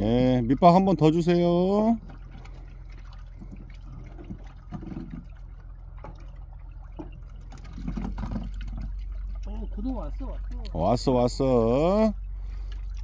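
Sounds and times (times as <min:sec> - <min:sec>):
steady low hum: 0:00.0 - 0:13.0
water sloshing and trickling: 0:00.0 - 0:13.0
small splashes: 0:01.1 - 0:13.0.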